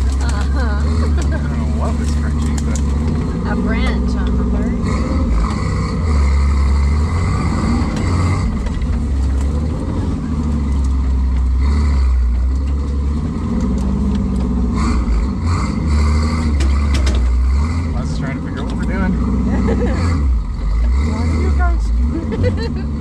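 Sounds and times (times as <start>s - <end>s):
engine revving at low speed: 0.0s - 23.0s.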